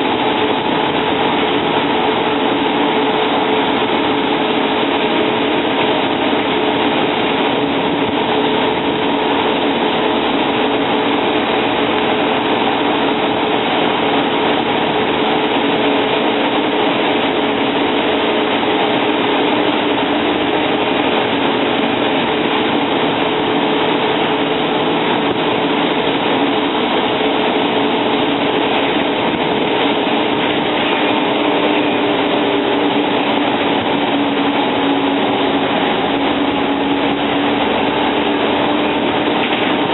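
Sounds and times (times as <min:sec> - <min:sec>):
bus engine and road noise: 0:00.0 - 0:39.9.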